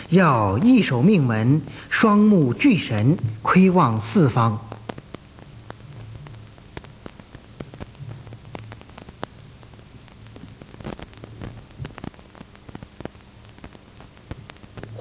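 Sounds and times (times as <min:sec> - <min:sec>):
low electrical hum: 0:00.0 - 0:15.0
crackling clicks: 0:02.5 - 0:15.0.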